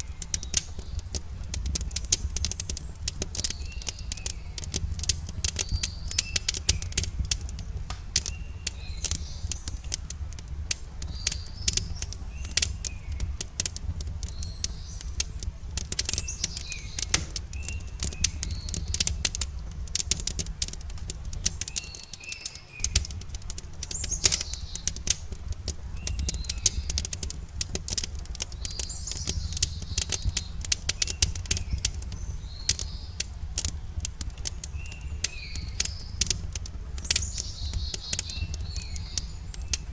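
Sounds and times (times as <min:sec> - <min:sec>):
campfire crackling and popping: 0:00.0 - 0:39.9
small birds chirping: 0:00.0 - 0:39.9
steady low rumble: 0:00.0 - 0:39.9.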